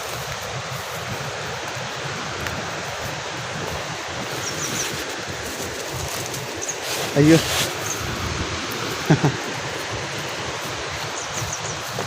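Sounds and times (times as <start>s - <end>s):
falling water rushing: 0.0s - 12.0s
wind on microphone: 0.0s - 12.0s.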